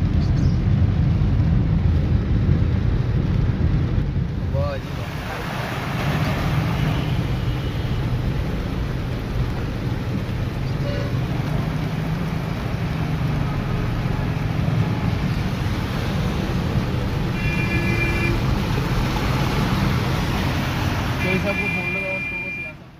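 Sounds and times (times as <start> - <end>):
car cabin engine and tyre rumble: 0.0 - 22.9
rain and water spray hiss: 0.7 - 21.2.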